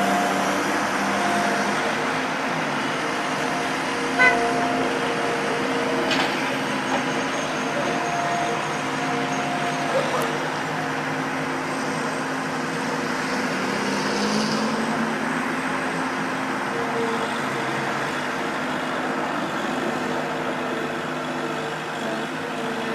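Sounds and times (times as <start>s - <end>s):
road traffic noise: 0.0s - 22.9s.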